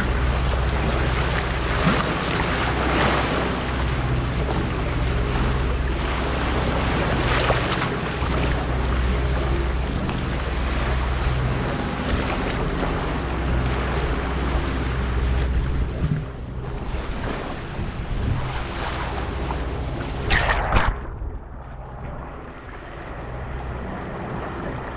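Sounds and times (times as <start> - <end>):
steady low hum: 0.0 - 24.9
water splashing along hull: 0.0 - 24.9
wind buffeting microphone: 0.0 - 24.9.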